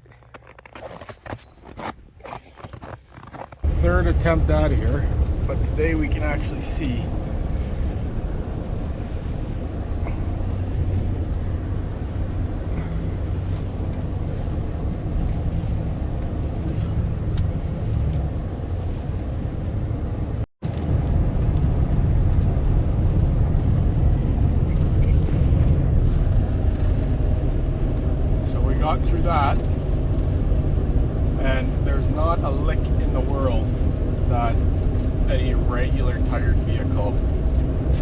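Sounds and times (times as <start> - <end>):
vehicle engine rumbling under load: 0.0 - 38.0.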